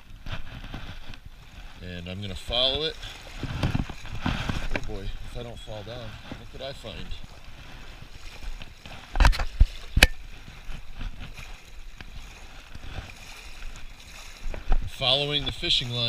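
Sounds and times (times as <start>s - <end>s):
legs wading through water: 0.0s - 16.0s.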